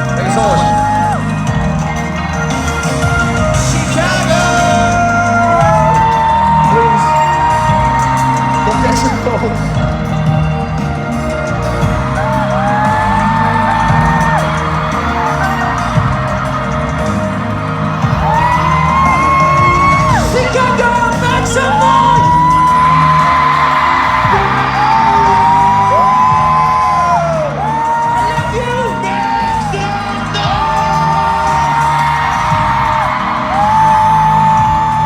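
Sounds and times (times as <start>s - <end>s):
fans screaming high-pitched: 0.0s - 35.0s
music over stadium sound system: 0.0s - 35.0s.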